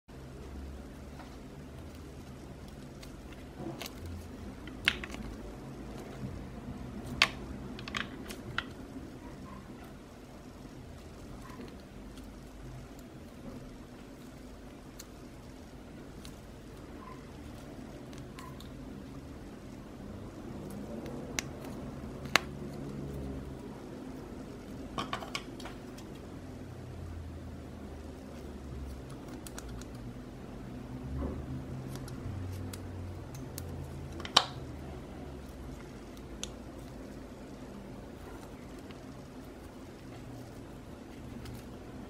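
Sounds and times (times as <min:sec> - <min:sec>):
low steady hum: 0:00.1 - 0:42.0.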